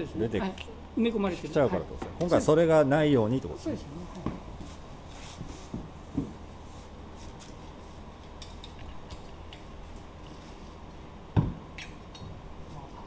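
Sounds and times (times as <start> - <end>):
low workshop room tone: 0.0 - 13.0.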